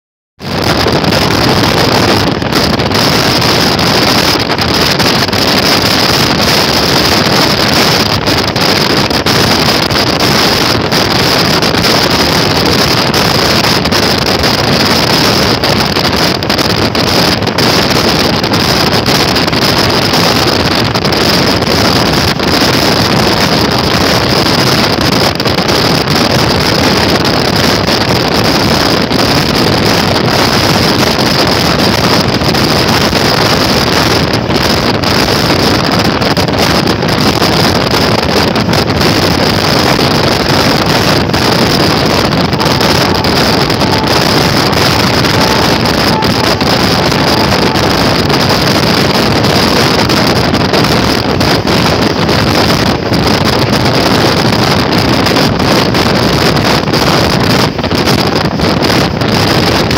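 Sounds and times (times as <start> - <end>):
train rushing at speed: 0.4 - 59.9
wind buffeting microphone: 0.4 - 59.9.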